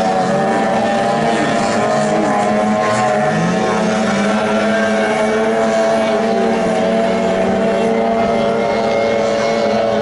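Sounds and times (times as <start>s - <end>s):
outboard boat motor running: 0.0s - 10.0s.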